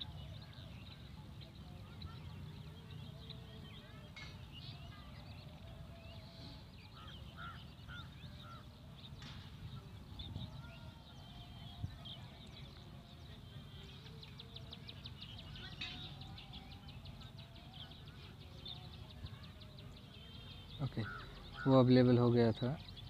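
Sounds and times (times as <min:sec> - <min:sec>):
bird trill: 0:00.0 - 0:23.0
birds chirping: 0:00.0 - 0:23.0.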